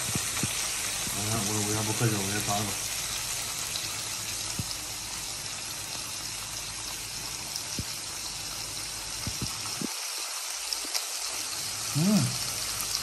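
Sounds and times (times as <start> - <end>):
meat sizzling on a grill pan: 0.0 - 13.0.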